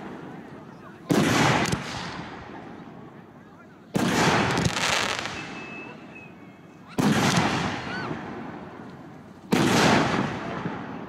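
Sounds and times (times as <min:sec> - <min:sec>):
rolling echo: 0:00.0 - 0:11.0.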